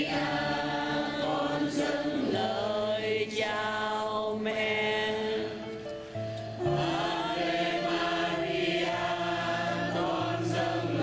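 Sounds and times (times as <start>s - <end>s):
choir singing a slow hymn: 0.0s - 5.8s, 6.5s - 11.0s.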